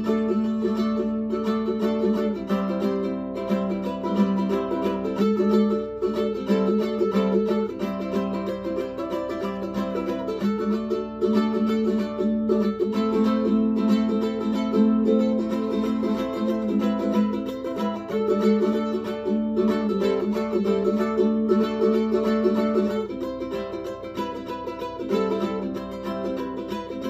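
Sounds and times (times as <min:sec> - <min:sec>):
eight-string ukulele playing: 0:00.0 - 0:27.0.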